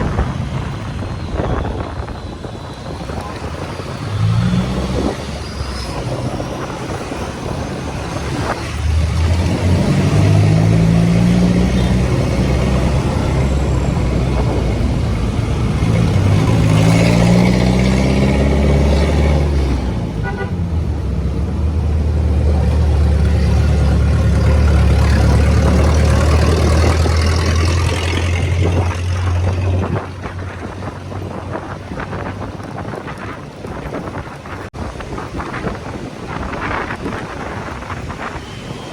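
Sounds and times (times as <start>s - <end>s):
wind and road noise: 0.0s - 38.9s
motorcycle engine accelerating: 2.8s - 34.7s.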